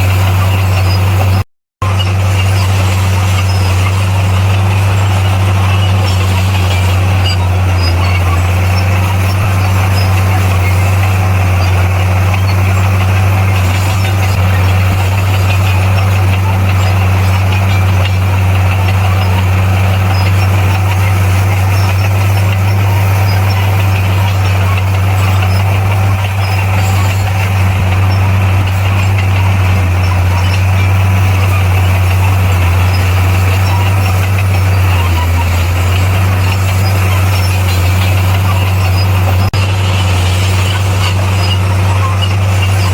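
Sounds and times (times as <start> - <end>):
bulldozer diesel engine drone: 0.0 - 42.9.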